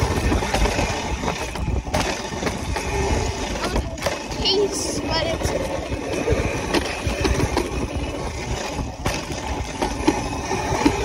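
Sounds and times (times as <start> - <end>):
bike riding over dirt: 0.0 - 11.0
wind buffeting microphone: 0.0 - 11.0.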